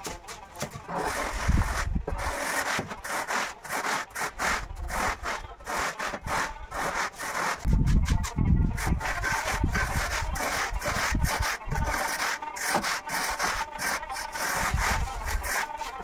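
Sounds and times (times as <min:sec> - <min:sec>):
hand tool scraping floor screed: 0:00.0 - 0:07.7, 0:08.8 - 0:16.0.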